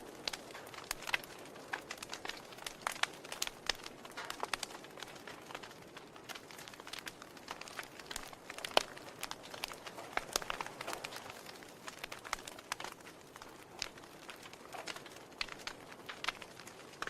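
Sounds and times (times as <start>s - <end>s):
fire snaps and pops: 0.0s - 17.0s
wood fire crackling: 0.0s - 17.0s.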